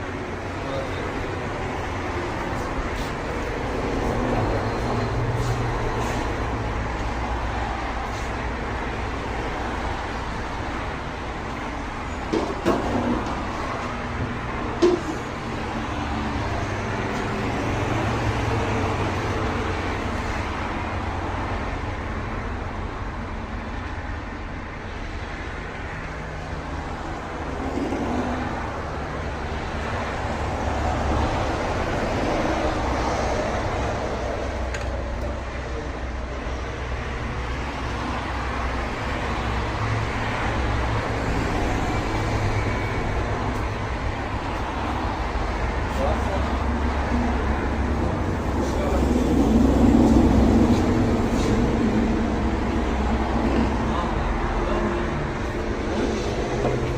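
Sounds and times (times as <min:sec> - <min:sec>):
road and traffic noise: 0:00.0 - 0:56.9.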